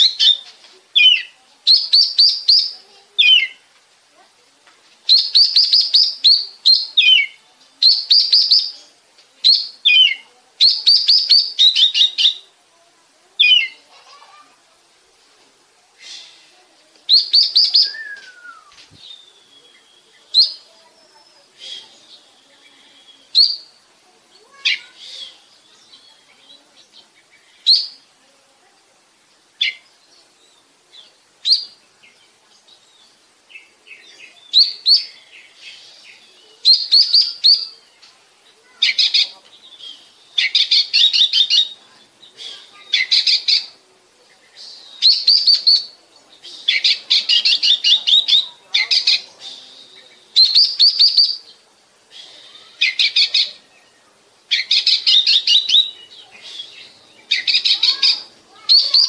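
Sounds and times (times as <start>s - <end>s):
bird singing: 0.0s - 3.6s, 5.1s - 12.5s, 13.4s - 13.8s, 17.1s - 28.1s, 29.3s - 59.0s.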